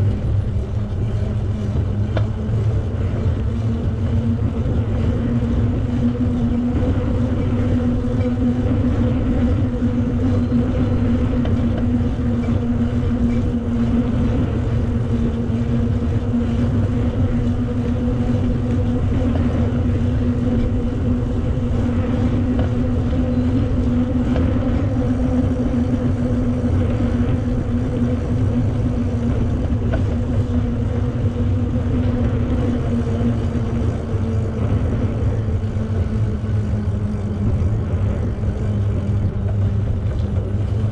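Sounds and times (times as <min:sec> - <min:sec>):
bicycle rolling noise: 0:00.0 - 0:40.9
steady hum: 0:00.0 - 0:40.9
wind rumble: 0:00.0 - 0:40.9.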